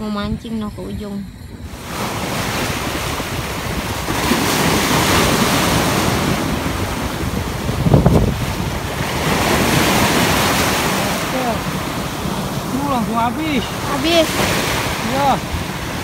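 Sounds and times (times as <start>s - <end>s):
wind buffeting microphone: 0.0s - 16.0s
waves washing up shore: 1.6s - 16.0s.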